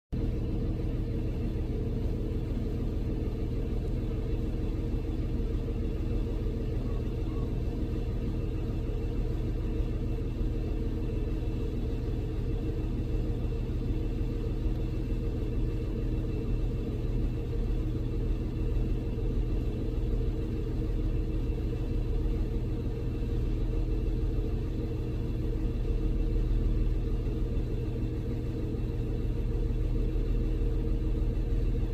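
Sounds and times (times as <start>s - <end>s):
car engine rumble inside cabin: 0.2s - 31.9s.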